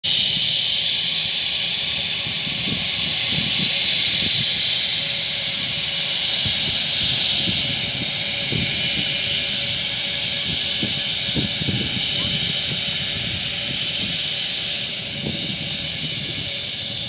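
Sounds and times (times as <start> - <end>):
distant jet engines whining: 0.1 - 17.0.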